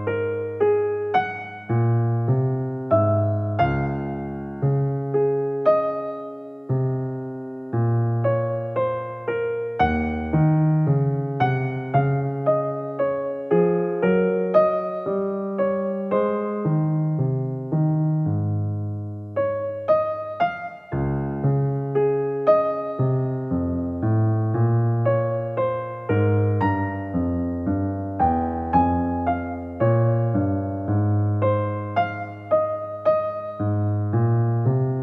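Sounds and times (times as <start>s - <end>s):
gentle piano piece: 0.0s - 35.0s.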